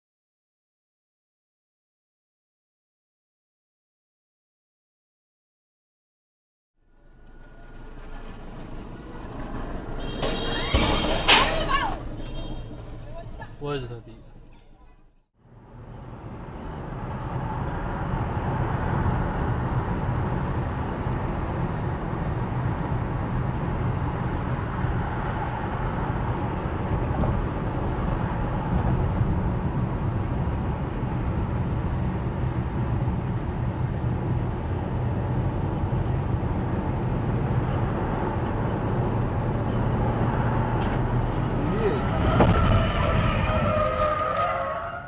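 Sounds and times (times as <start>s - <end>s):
car cabin road and engine noise: 6.8s - 45.0s.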